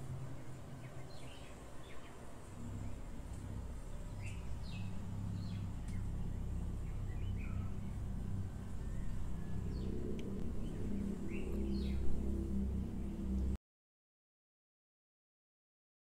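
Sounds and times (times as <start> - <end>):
low rumble: 0.0 - 13.6.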